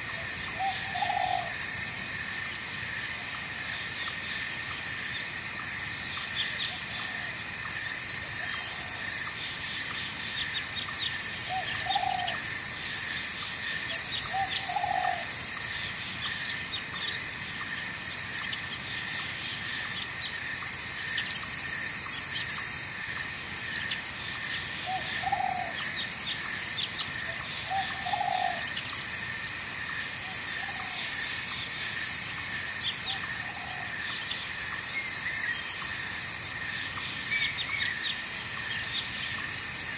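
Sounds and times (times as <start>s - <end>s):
shrill insects chorus: 0.0s - 39.9s.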